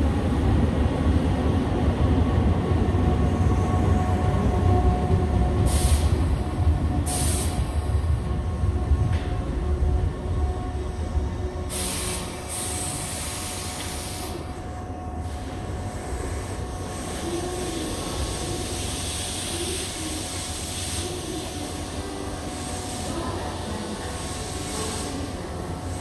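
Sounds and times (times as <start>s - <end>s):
electric train rumbling: 0.0s - 26.0s.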